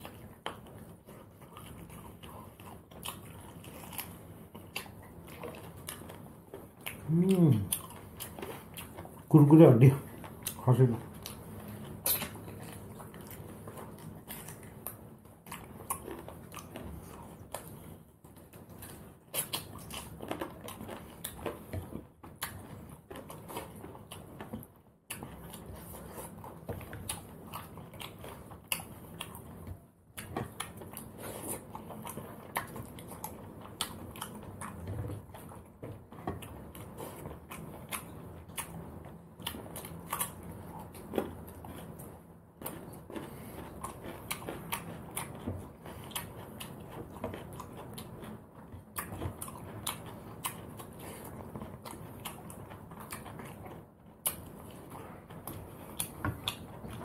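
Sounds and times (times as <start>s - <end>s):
chewing and crunching bone: 0.0s - 57.0s.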